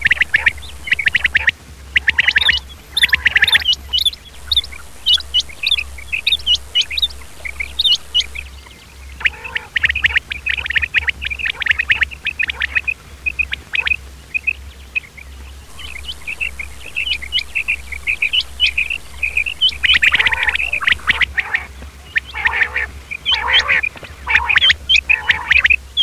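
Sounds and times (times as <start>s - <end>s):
low steady hum: 0.0s - 26.0s
quails chirping and trilling: 0.0s - 26.0s.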